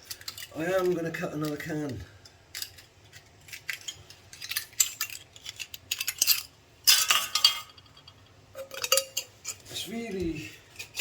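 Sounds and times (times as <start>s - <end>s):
metal objects clinking: 0.0s - 11.0s.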